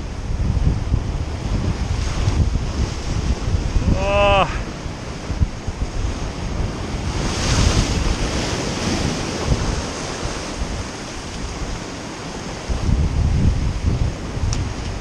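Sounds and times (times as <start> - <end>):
ocean waves washing on shore: 0.0 - 15.0
wind buffeting microphone: 0.0 - 15.0.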